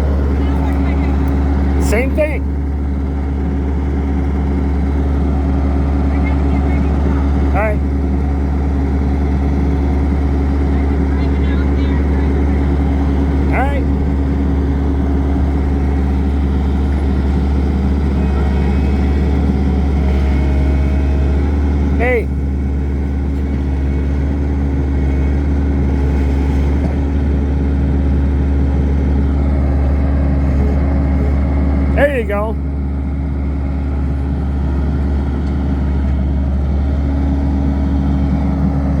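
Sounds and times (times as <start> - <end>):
skid steer engine droning: 0.0 - 39.0.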